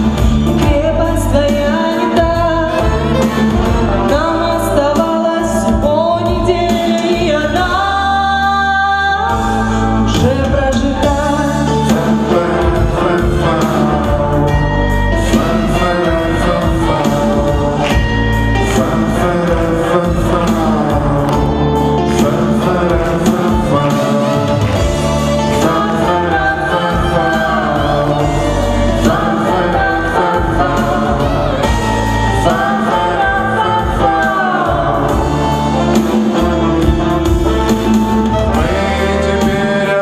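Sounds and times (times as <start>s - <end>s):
instrumental accompaniment: 0.0s - 40.0s
man and woman singing duet: 0.0s - 40.0s.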